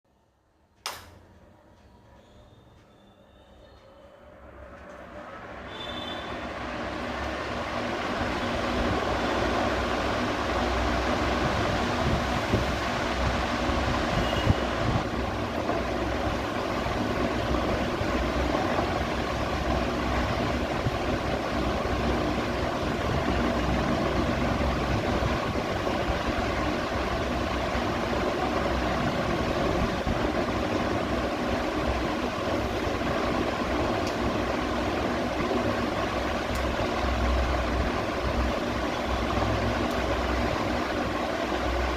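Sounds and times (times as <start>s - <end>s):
ceiling fan whirring: 0.1s - 41.9s.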